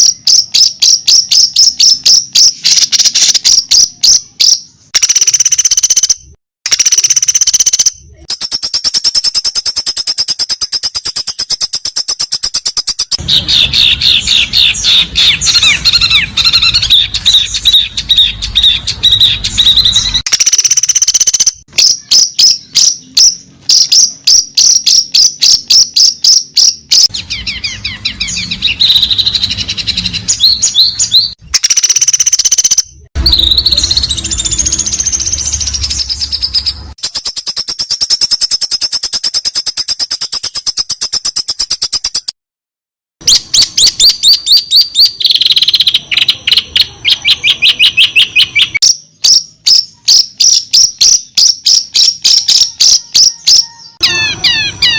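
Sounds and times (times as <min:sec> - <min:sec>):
songbird whistling and trilling: 0:00.0 - 0:42.3, 0:43.2 - 0:54.9
sharp repeated bird notes: 0:00.0 - 0:42.4, 0:43.2 - 0:54.9.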